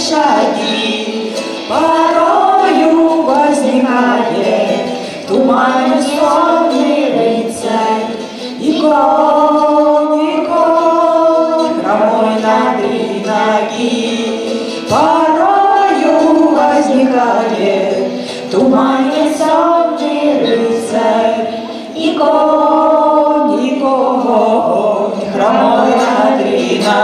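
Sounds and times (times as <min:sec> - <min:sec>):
group singing in harmony: 0:00.0 - 0:27.0
ukulele: 0:00.0 - 0:27.0
violin: 0:00.0 - 0:27.0.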